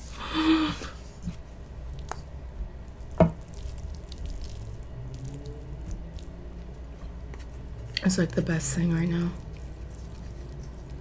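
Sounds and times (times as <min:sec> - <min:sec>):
wet squishing of spaghetti: 0:01.0 - 0:11.0.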